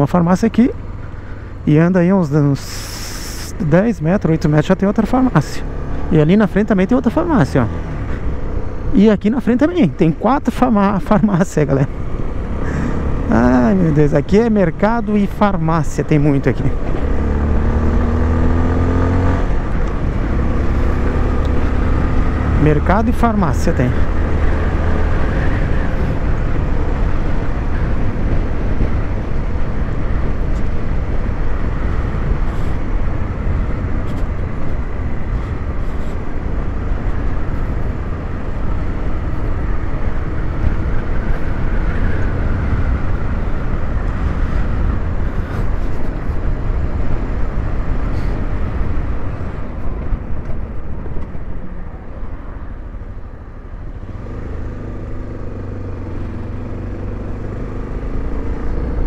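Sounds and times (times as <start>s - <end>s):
wind rushing over microphone: 0.8s - 59.0s.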